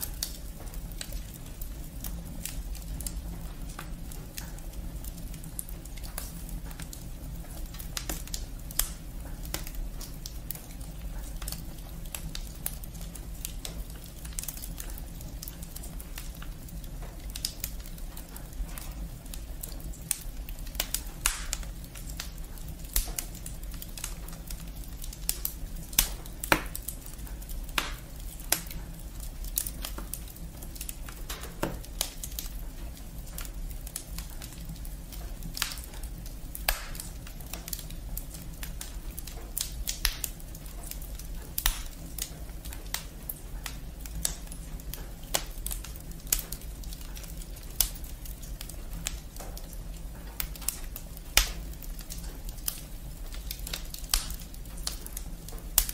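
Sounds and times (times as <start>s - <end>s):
low fire rumble: 0.0s - 55.9s
wood fire crackling and popping: 0.0s - 55.9s.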